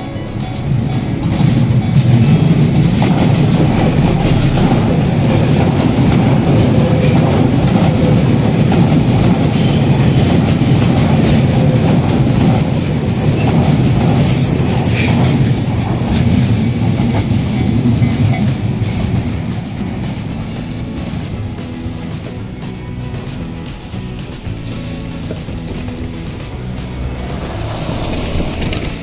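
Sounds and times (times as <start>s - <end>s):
train wheels knocking over rail joints: 0.0s - 29.0s.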